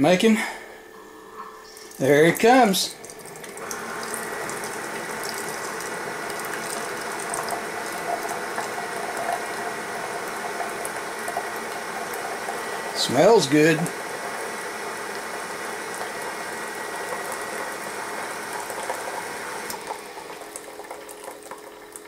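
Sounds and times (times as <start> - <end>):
coffee maker pump running: 0.0 - 22.0
drink streaming into cup: 1.0 - 22.0.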